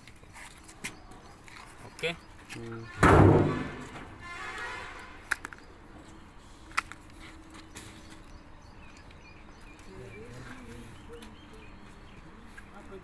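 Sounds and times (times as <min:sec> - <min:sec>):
distant voices: 0:00.3 - 0:13.0.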